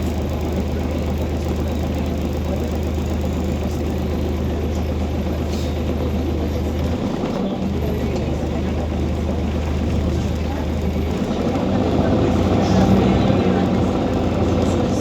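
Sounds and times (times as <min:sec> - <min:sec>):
bus engine humming: 0:00.0 - 0:15.0.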